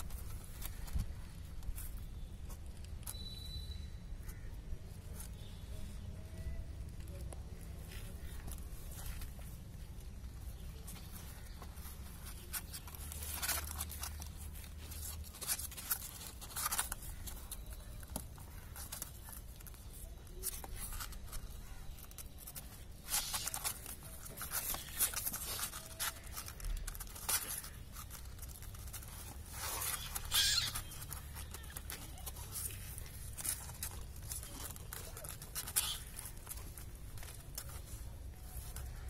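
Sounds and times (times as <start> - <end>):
kittens rustling on cardboard: 0.0 - 39.0.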